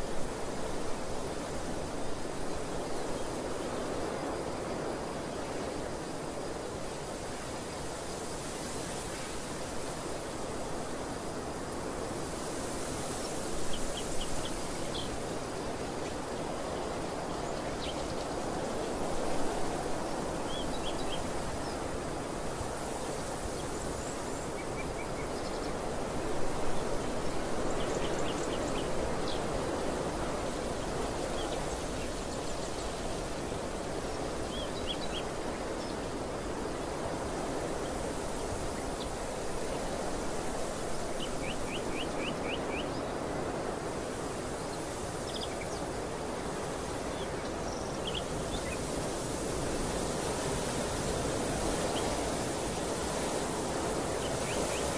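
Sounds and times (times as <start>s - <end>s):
wind gusting against microphone: 0.0s - 54.9s.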